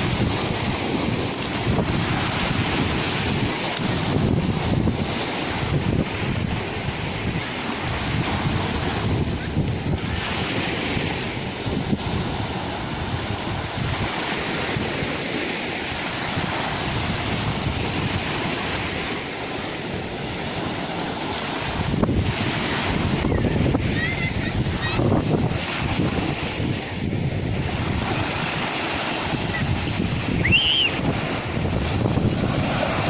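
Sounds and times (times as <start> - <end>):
sea waves washing: 0.0 - 33.0
wind buffeting microphone: 0.0 - 33.0.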